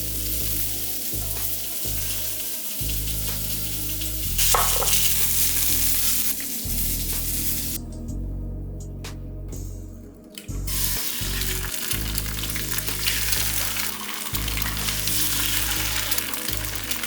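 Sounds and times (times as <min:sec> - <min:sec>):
food sizzling in a frying pan: 0:00.0 - 0:07.8, 0:10.7 - 0:17.0
background music with deep bass: 0:00.0 - 0:17.0.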